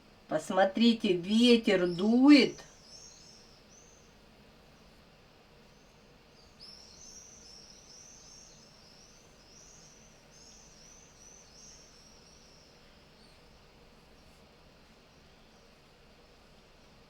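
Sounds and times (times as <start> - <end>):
low room hiss: 0.0 - 17.0.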